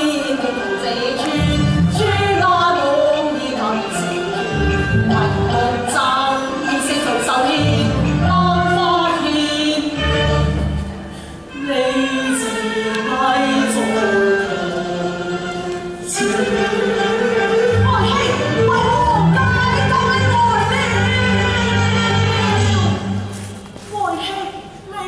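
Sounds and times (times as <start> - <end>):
opera singing: 0.0 - 10.8, 11.4 - 23.3
traditional instrumental accompaniment: 0.0 - 23.9.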